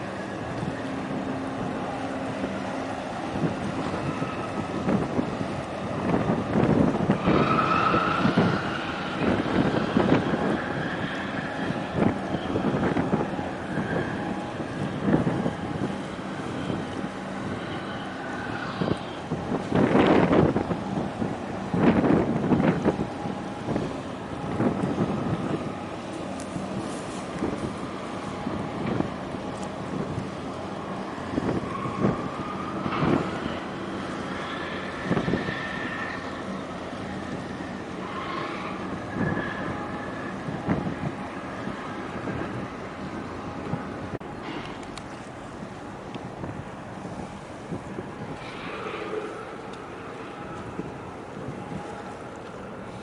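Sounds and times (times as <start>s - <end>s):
choppy water: 0.0s - 53.0s
faint ship engine drone: 0.0s - 53.0s
wind buffeting microphone: 0.0s - 53.0s.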